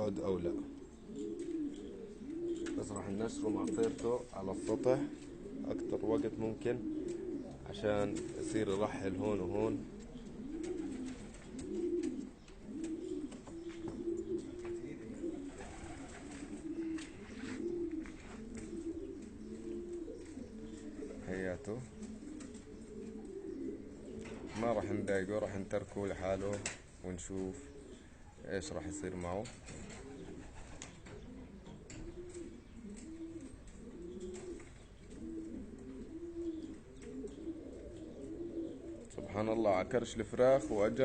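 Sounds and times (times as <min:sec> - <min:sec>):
pigeons cooing: 0:00.0 - 0:41.0.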